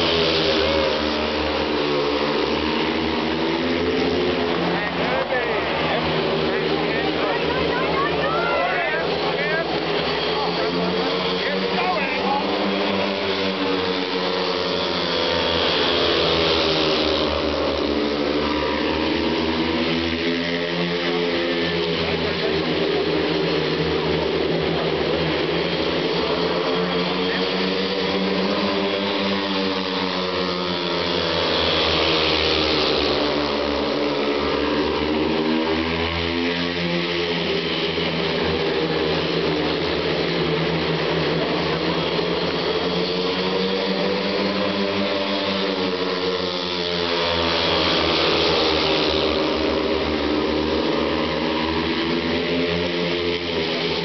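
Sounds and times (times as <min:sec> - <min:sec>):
motorcycle engines racing: 0:00.0 - 0:54.0.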